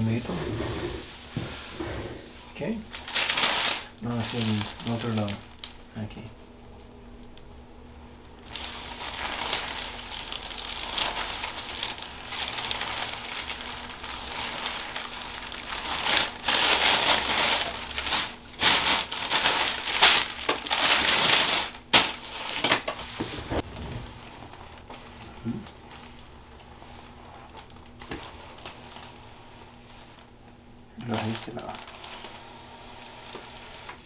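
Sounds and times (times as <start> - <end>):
paper crinkling and rustling: 2.9 - 5.7, 8.4 - 30.3, 31.0 - 34.0.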